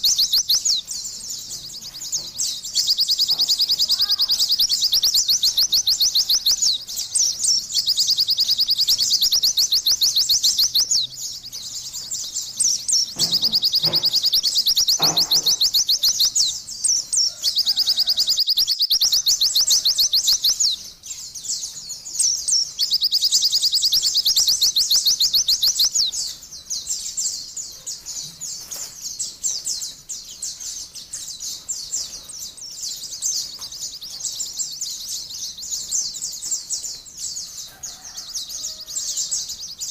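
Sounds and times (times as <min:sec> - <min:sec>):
bird chirping trills: 0:00.0 - 0:39.9.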